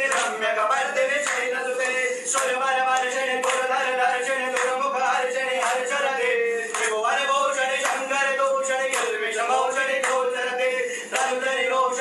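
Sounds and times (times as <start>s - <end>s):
men chanting a prayer: 0.0s - 12.0s.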